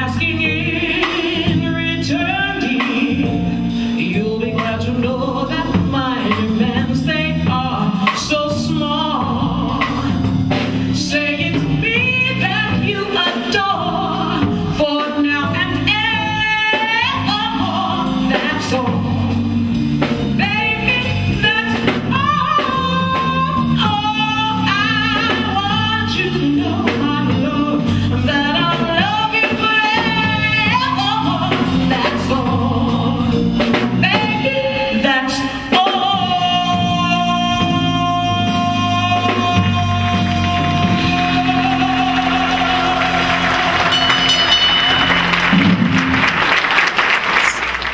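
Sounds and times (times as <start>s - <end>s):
woman singing into a microphone: 0.0s - 19.5s, 20.3s - 43.0s
bass guitar: 0.0s - 46.8s
drum kit: 0.0s - 47.9s.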